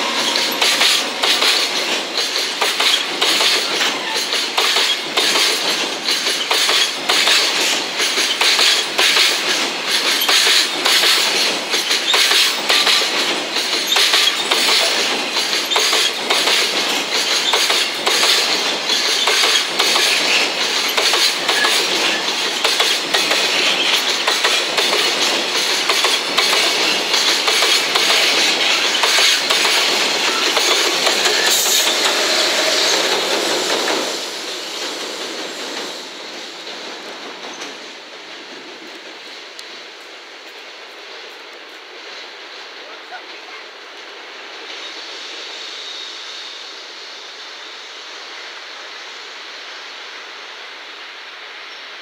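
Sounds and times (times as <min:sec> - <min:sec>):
freight train wheels clattering: 0:00.0 - 0:42.8.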